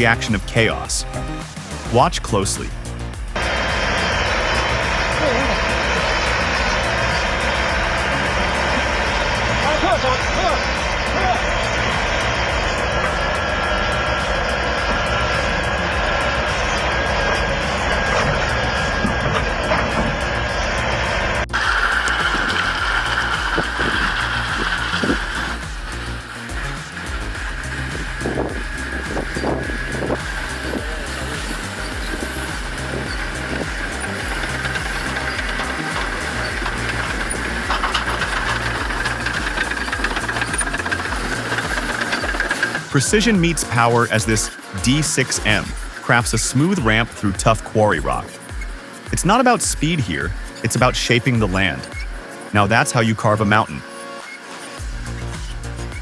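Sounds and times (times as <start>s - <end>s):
heavy construction machinery running: 1.6s - 47.2s.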